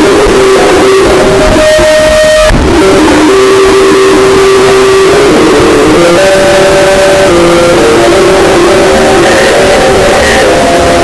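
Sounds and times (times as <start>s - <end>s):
distorted noise wall: 0.0s - 11.0s
droning tone: 0.0s - 11.0s.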